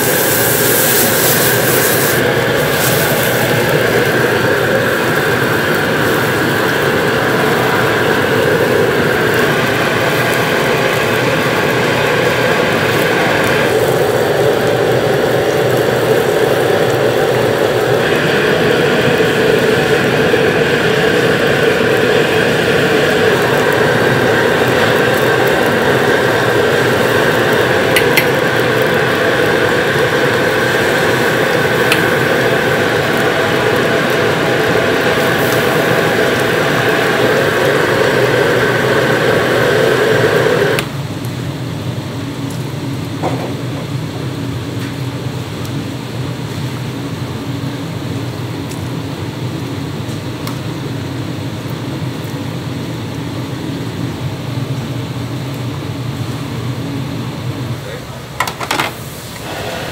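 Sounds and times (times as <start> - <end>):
broth boiling hard: 0.0 - 59.9
gas burner roaring: 0.0 - 59.9.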